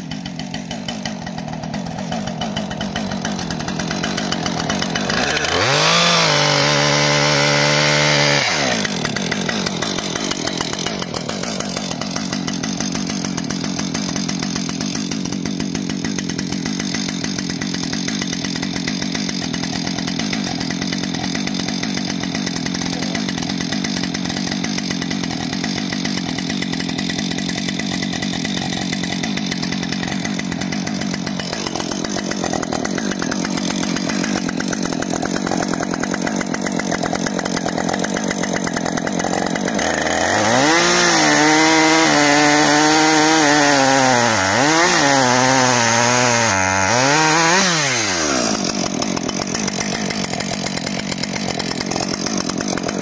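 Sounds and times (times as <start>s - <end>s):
chainsaw revving and idling: 0.0s - 53.0s.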